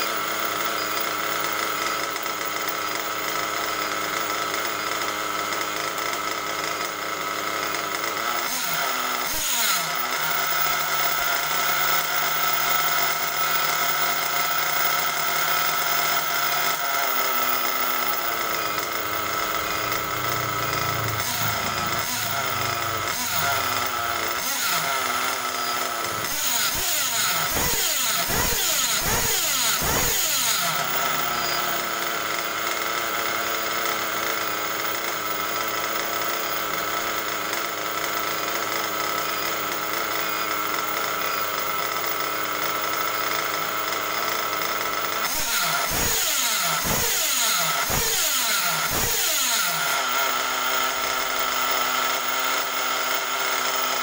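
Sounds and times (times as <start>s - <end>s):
model engine idling and revving: 0.0s - 54.0s.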